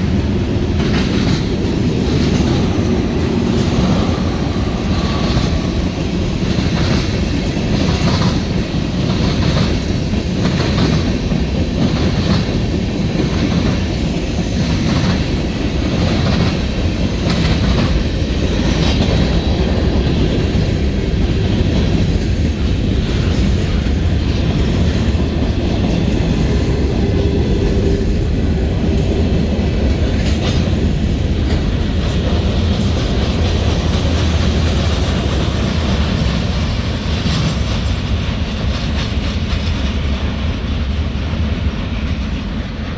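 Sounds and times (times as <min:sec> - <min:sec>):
freight train cars rumbling past: 0:00.0 - 0:42.9
wheels clicking over rail joints: 0:00.0 - 0:42.9.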